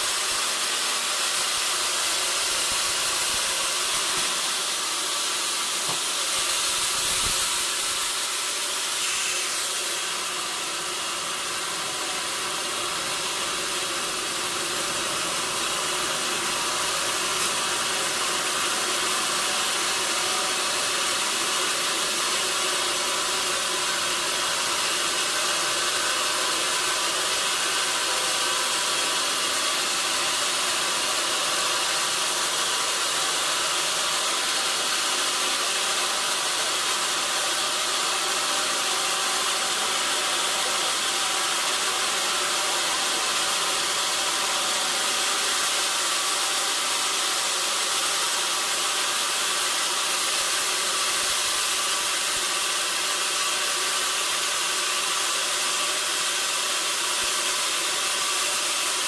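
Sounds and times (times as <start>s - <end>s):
sawmill machinery hissing drone: 0.0s - 59.0s.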